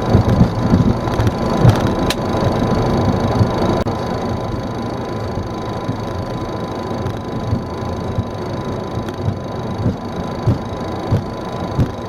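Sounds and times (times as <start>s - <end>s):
engine and airflow rumble: 0.0s - 12.0s
thin steady whine: 0.0s - 12.0s.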